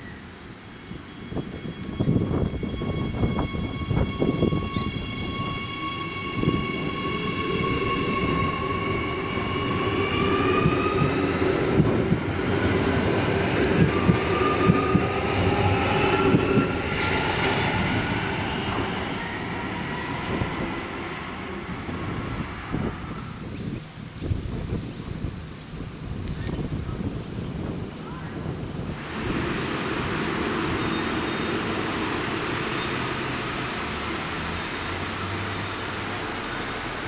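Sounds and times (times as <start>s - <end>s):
electric train whine: 0.0s - 24.2s, 28.8s - 37.0s
low train rumble: 0.0s - 37.0s.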